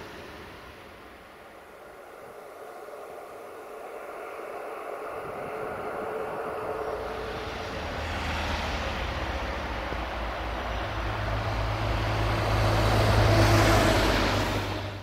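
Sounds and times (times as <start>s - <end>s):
vehicle engine approaching: 0.0s - 15.0s.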